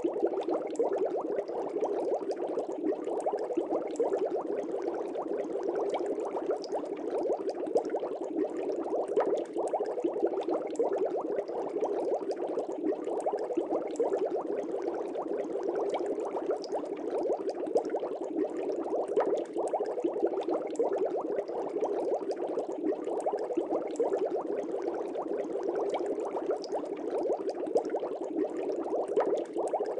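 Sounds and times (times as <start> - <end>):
water bubbling: 0.0 - 29.9.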